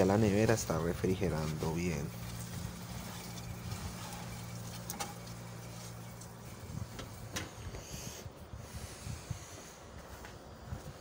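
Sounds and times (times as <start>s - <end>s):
refrigerator humming: 0.0s - 10.6s.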